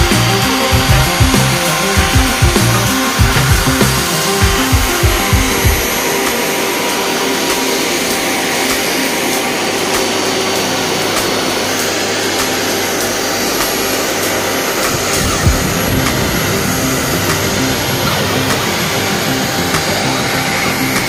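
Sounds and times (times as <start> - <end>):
buffing pad hissing on paint: 0.0 - 21.0
electric polisher motor hum: 0.0 - 21.0.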